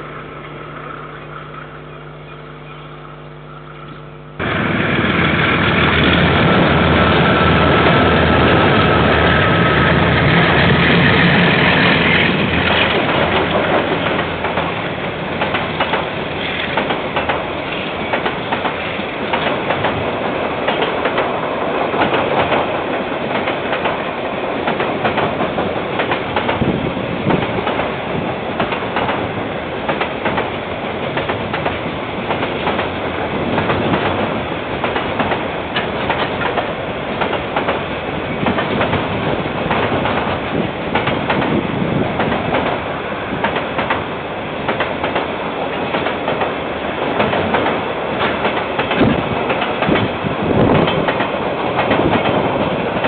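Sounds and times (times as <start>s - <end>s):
train wheels rumbling on rails: 4.4s - 53.0s
wheels clicking over rail joints: 5.5s - 28.0s, 28.6s - 53.0s.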